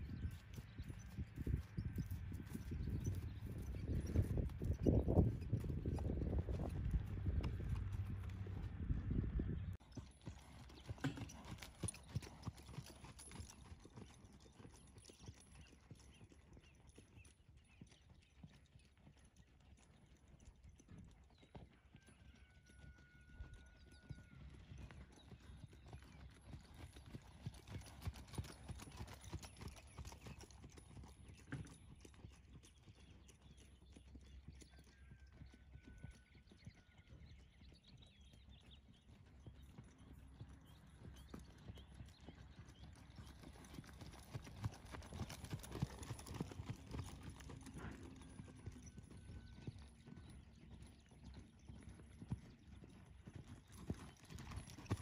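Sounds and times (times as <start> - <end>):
horse hoofbeats on dirt: 0.0 - 55.0.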